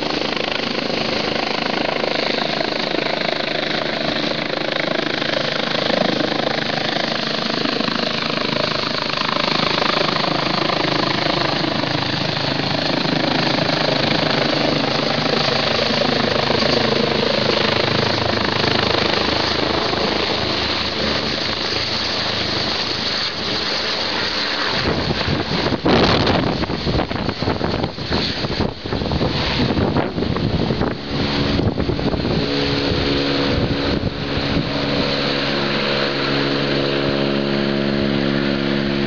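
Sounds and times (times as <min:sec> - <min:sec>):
helicopter rotor beat: 0:00.0 - 0:39.0
helicopter turbine whine: 0:00.0 - 0:39.0.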